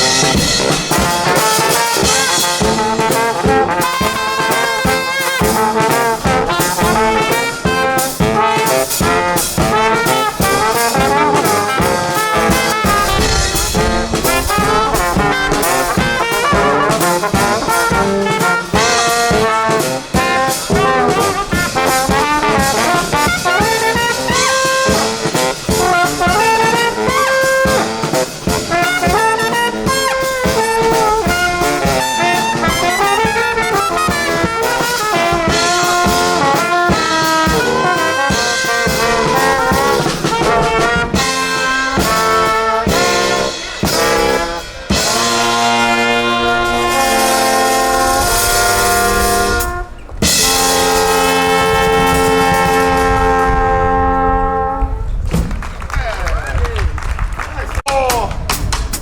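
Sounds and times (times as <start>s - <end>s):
brass band playing: 0.0s - 55.2s.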